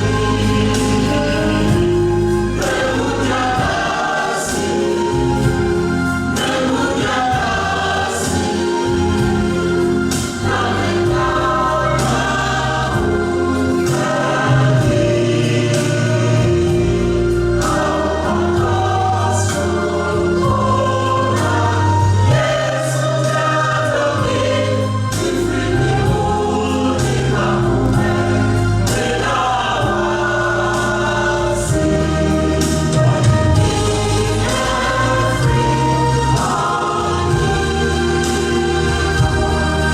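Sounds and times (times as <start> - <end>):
choir singing gospel: 0.0 - 39.9
instrumental accompaniment: 0.0 - 39.9.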